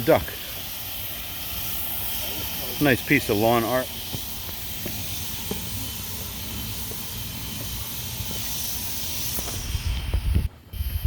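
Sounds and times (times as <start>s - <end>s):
hiss: 0.0s - 11.0s.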